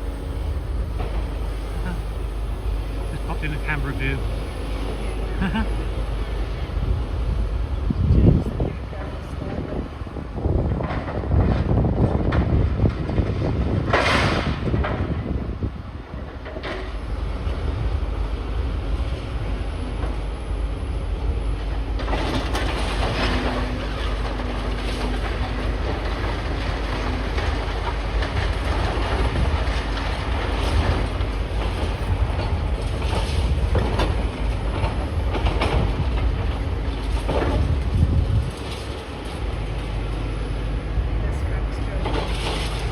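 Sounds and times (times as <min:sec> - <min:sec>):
low engine rumble: 0:00.0 - 0:42.9.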